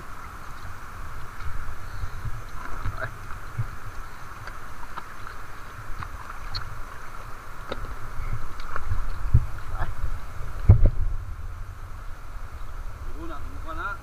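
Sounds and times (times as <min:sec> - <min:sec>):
low rumble on microphone: 0:00.0 - 0:14.0.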